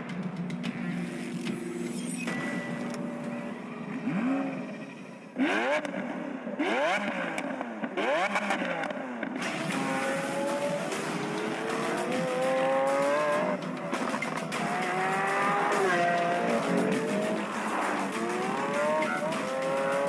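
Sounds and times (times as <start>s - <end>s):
car engine revving: 2.6s - 20.0s.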